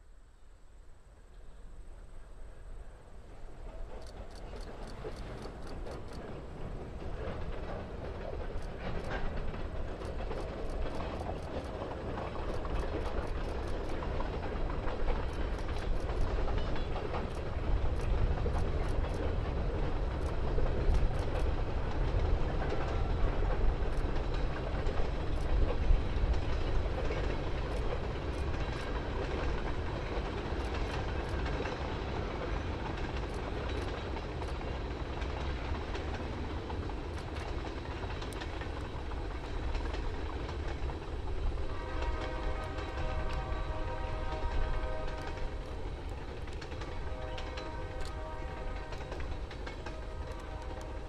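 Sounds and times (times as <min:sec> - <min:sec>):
freight train rumbling: 0:01.1 - 0:51.0
wheels clicking over rail joints: 0:03.7 - 0:51.0.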